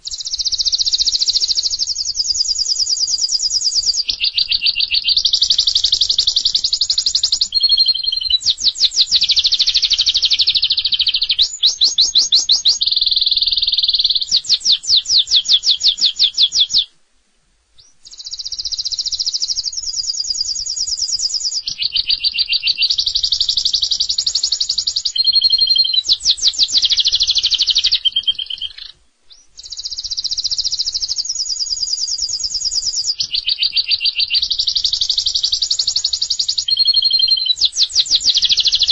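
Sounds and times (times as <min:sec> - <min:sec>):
canary singing trills: 0:00.0 - 0:16.9, 0:17.8 - 0:38.9.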